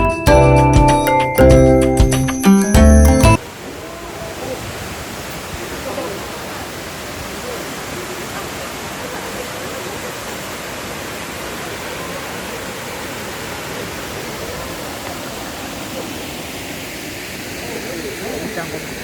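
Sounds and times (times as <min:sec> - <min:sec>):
waterfall rushing: 0:03.4 - 0:19.0.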